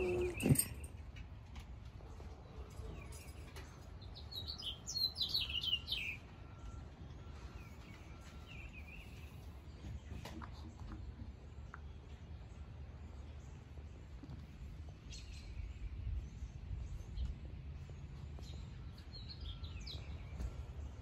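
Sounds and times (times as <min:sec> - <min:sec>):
songbird chirping: 0:00.0 - 0:01.2, 0:02.5 - 0:21.0
faint low outdoor rumble: 0:00.0 - 0:21.0.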